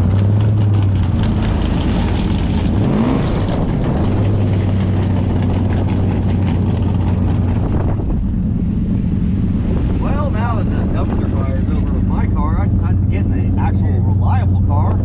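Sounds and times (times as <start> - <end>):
car engine in cabin: 0.0 - 15.0
road noise: 0.0 - 15.0.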